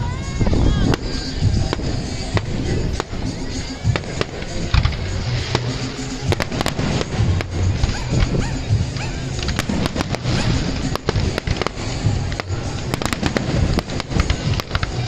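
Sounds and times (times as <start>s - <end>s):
fireworks banging: 0.0s - 15.0s
music with heavy bass beat: 0.0s - 15.0s.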